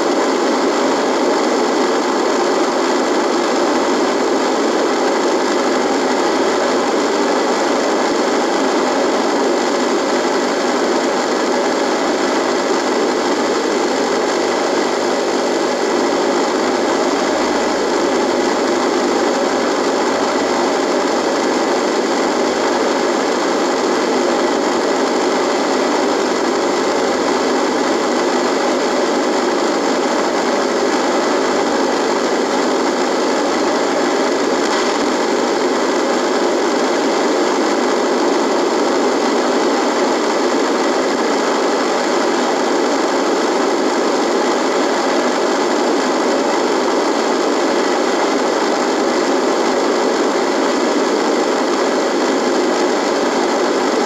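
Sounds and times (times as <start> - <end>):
radio buzz: 0.0 - 54.0.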